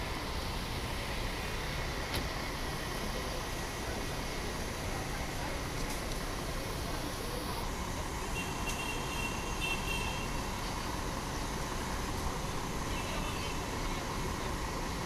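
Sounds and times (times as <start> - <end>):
bus engine running: 0.0 - 15.0
city street traffic: 0.0 - 15.0.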